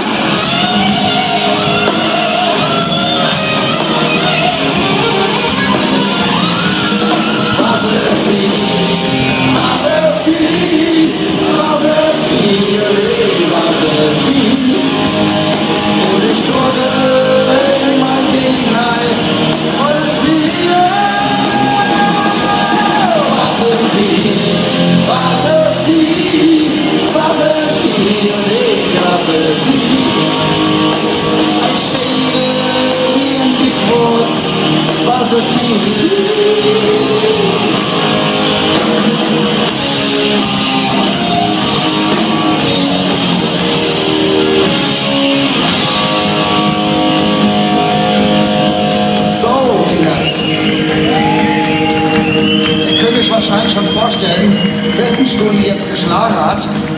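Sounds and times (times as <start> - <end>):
electric guitar melody: 0.0 - 56.9
rock band playing live: 0.0 - 56.9.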